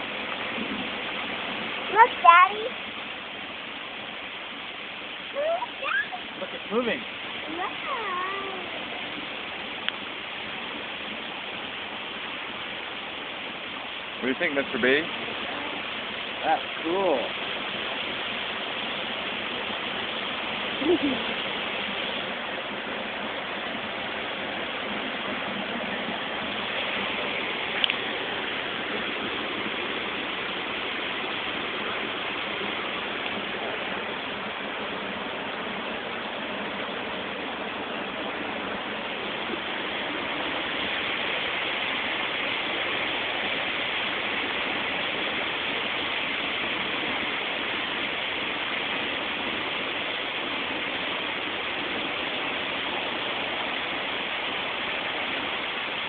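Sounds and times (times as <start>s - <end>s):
water rushing off water wheel: 0.0s - 56.0s.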